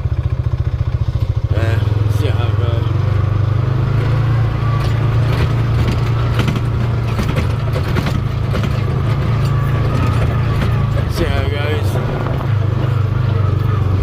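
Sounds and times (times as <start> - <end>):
farm vehicle engine running: 0.0 - 14.0
vehicle rattling and clicking: 0.0 - 14.0.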